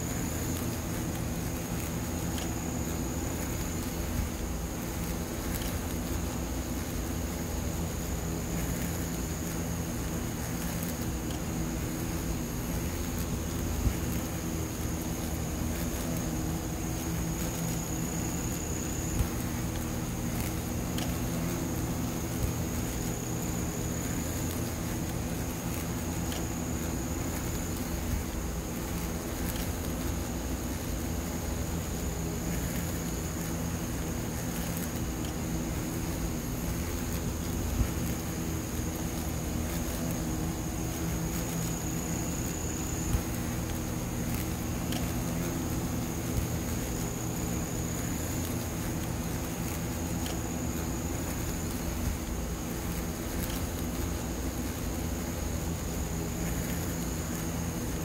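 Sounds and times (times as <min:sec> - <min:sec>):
hornets buzzing: 0:00.0 - 0:58.0
thin high whine: 0:00.0 - 0:58.0.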